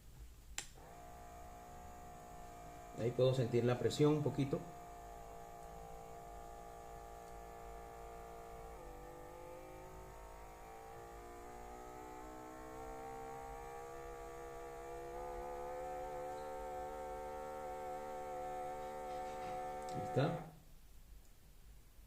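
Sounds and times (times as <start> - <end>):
small air pump humming: 0.6 - 20.6.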